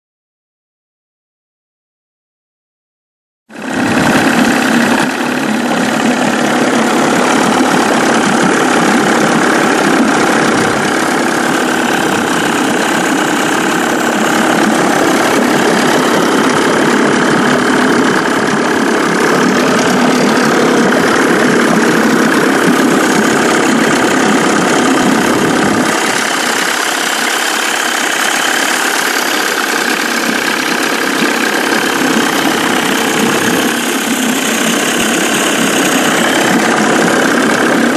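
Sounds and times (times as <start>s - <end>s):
outboard motor running: 3.5s - 37.9s.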